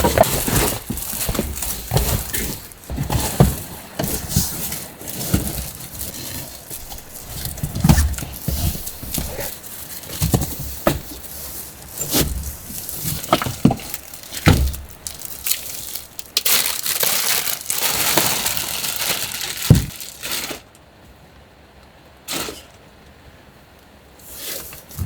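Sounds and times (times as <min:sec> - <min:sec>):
crinkling and rustling: 0:00.0 - 0:20.8.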